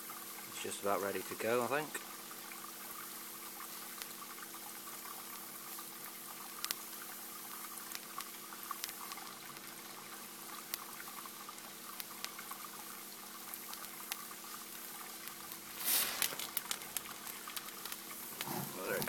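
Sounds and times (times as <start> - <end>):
chemical mixture fizzing and sizzling: 0.0 - 19.0
small crackles and ticks: 0.0 - 19.0.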